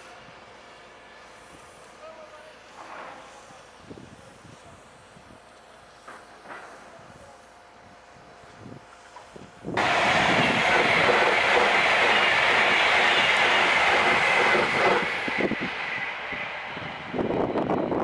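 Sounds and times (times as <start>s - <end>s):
electric train passing at speed: 0.0s - 2.8s, 5.0s - 18.0s.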